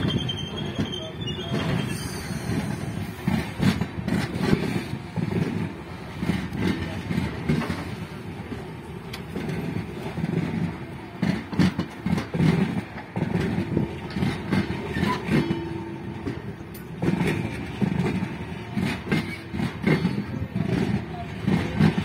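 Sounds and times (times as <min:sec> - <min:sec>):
rumble of wheels on rail: 0:00.0 - 0:22.0
sharp clacks over rail joints: 0:02.5 - 0:22.0.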